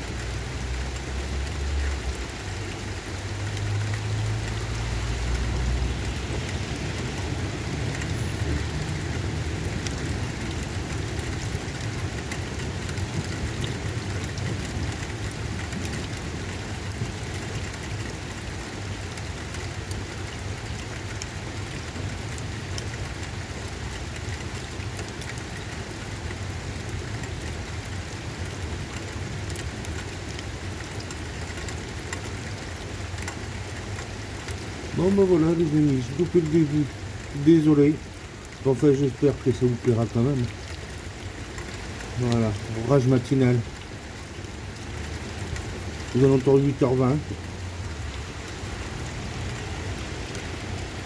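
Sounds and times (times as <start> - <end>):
rain hissing: 0.0 - 51.0
raindrop ticks: 0.0 - 51.0.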